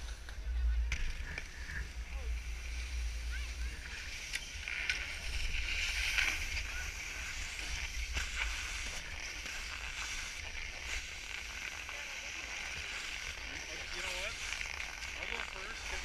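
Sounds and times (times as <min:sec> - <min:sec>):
skis scraping over snow: 0:00.0 - 0:16.0.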